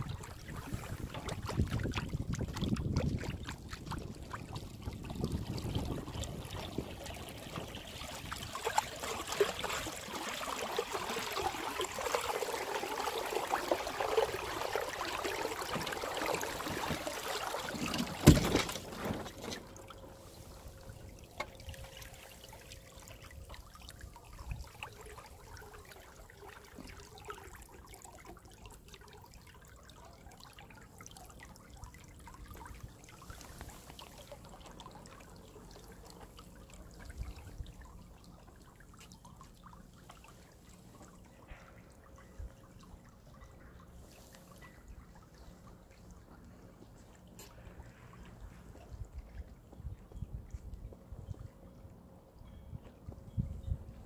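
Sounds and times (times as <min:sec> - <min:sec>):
water splashing along boat hull: 0:00.0 - 0:51.1.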